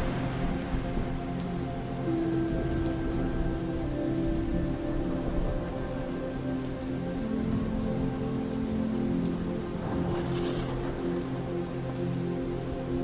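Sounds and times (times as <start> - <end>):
soft music of held notes: 0.0 - 13.0
steady rainfall: 0.0 - 13.0.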